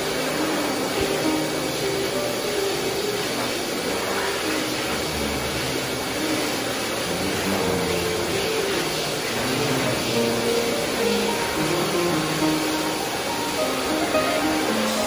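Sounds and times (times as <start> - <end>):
grooming dryer blowing air: 0.0 - 15.0.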